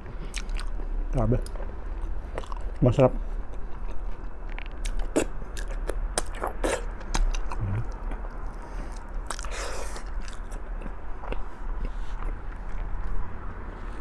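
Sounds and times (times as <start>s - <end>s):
close chewing with wet smacks: 0.2s - 2.9s, 3.5s - 13.4s.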